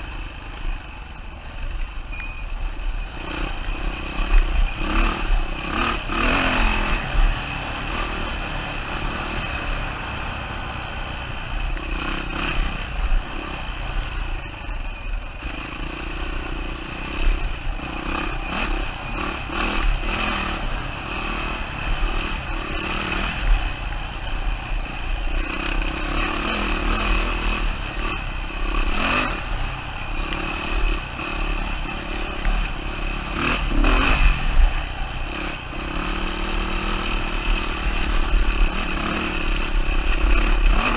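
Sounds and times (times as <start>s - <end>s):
motorcycle engine revving: 2.5s - 40.9s.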